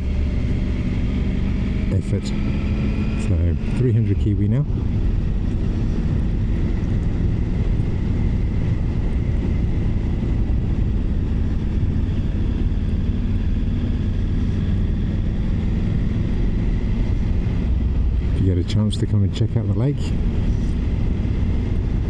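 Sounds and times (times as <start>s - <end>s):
motorcycle engine running: 0.0s - 19.5s.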